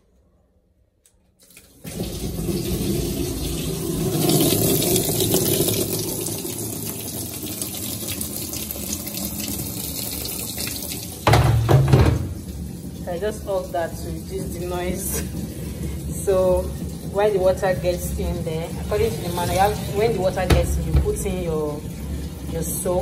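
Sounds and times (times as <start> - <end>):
water rushing into washing machine: 1.4 - 23.0.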